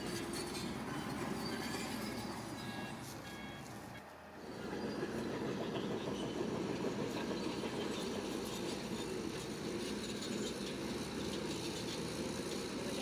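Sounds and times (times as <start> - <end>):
diesel construction machinery running: 0.0 - 13.0.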